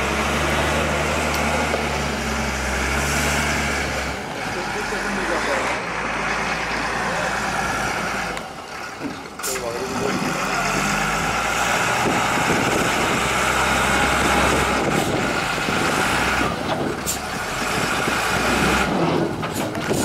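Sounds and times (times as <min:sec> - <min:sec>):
diesel loader engine under load: 0:00.0 - 0:20.0.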